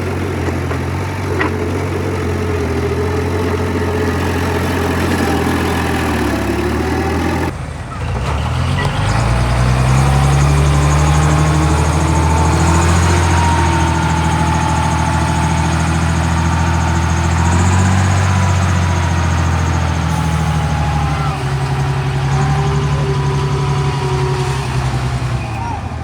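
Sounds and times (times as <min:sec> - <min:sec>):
heavy machine diesel engine running: 0:00.0 - 0:26.0.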